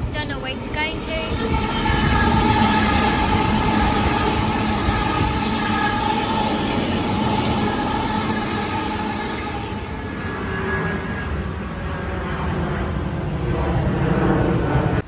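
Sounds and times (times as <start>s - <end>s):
train steady whine: 0.0s - 15.0s
train wheels rumbling on rails: 0.0s - 15.0s.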